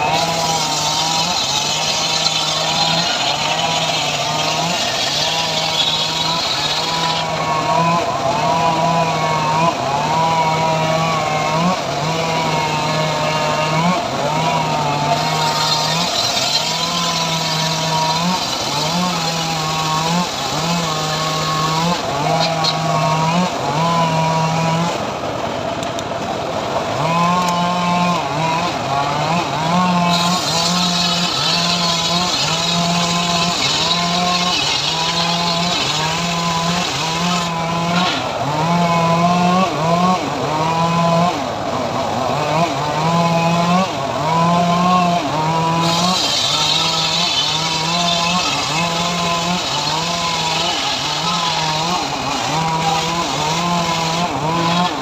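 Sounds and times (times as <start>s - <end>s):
engine-driven saw cutting wood: 0.0s - 55.0s.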